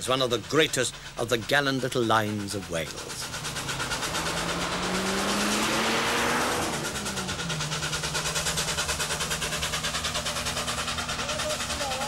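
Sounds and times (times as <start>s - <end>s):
steam locomotive chuffing: 0.0s - 12.0s
road vehicle passing: 1.9s - 12.0s.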